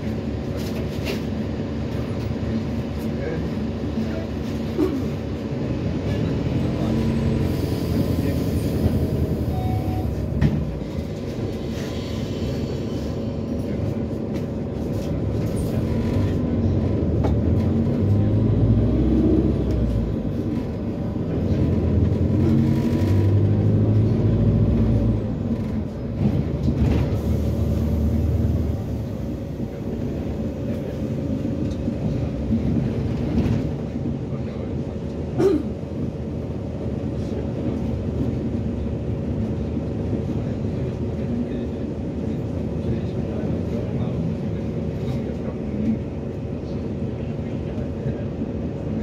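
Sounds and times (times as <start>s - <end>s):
bus engine rumbling: 0.0s - 49.0s.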